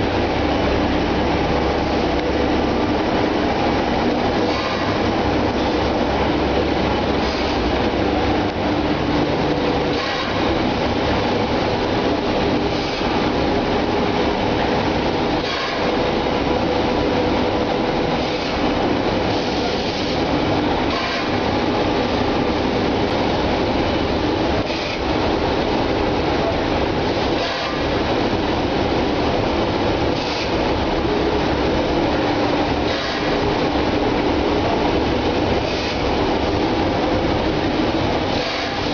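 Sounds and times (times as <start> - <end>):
machinery mechanical din: 0.0 - 38.9.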